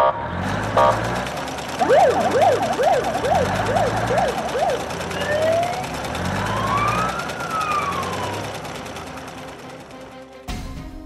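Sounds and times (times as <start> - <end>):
police siren: 0.0 - 9.2.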